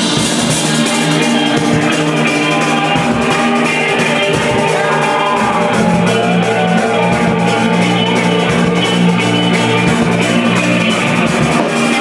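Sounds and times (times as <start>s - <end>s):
drum kit rhythm: 0.0s - 12.0s
effects-laden electric guitar: 0.0s - 12.0s.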